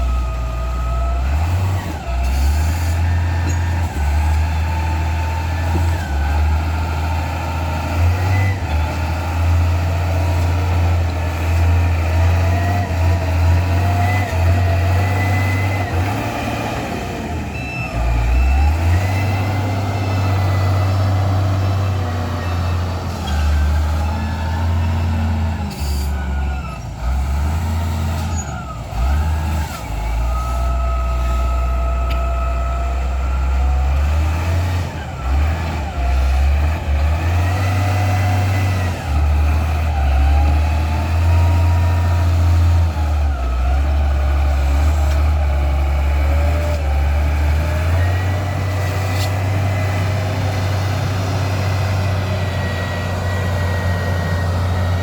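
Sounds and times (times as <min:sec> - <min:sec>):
heavy diesel engines labouring: 0:00.0 - 0:55.0.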